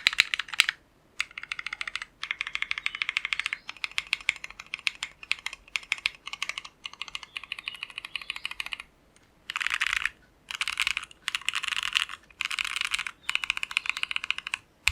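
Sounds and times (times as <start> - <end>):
mechanical keyboard typing: 0.0 - 8.9, 9.5 - 14.9.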